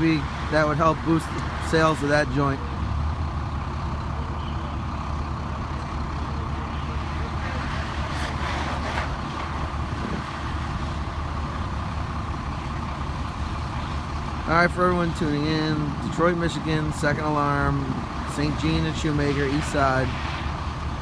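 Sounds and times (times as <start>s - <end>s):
large engine droning: 0.0s - 21.0s.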